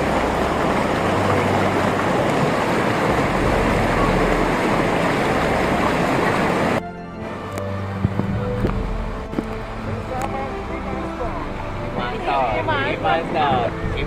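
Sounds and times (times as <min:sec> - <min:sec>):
whitewater rushing: 0:00.0 - 0:14.0.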